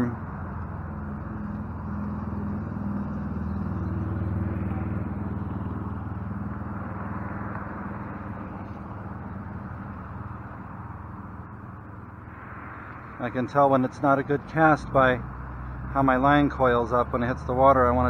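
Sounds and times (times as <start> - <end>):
engine running low hum: 0.0 - 18.0.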